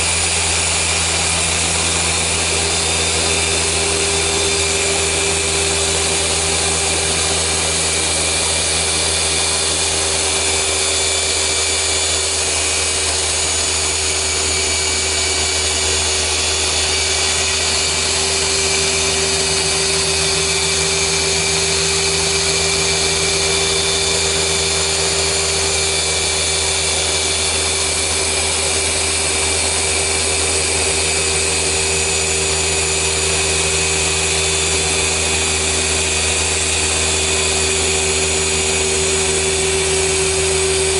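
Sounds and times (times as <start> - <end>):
polisher motor whir: 0.0 - 40.9.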